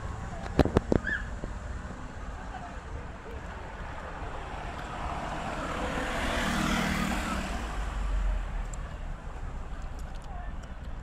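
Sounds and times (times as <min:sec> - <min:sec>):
vehicle passing: 0:00.0 - 0:09.8.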